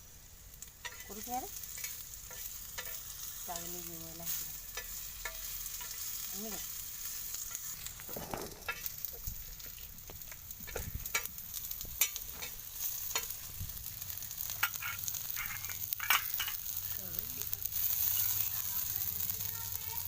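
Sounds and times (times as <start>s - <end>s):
food sizzling in a pan: 0.0s - 20.0s
spatula scraping a pan: 0.8s - 13.5s, 14.2s - 16.8s, 17.7s - 19.2s.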